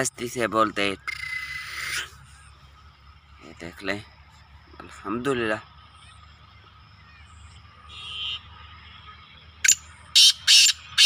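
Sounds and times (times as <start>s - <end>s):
francolin calling: 0.0s - 5.0s, 5.6s - 11.0s.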